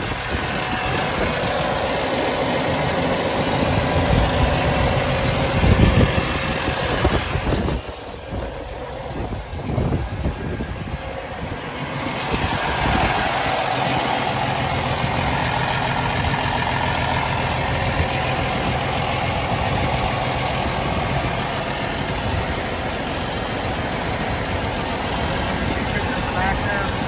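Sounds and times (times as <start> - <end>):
diesel engine at fast idle: 0.0 - 27.0.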